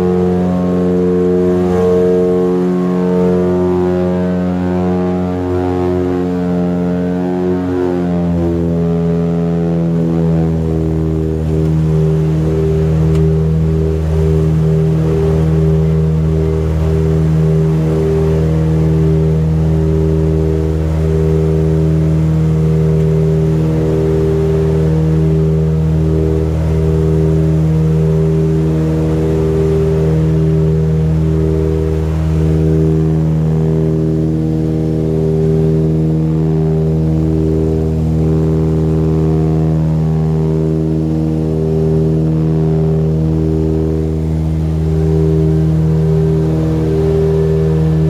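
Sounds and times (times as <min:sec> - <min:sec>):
propeller plane engine droning: 0:00.0 - 0:48.0.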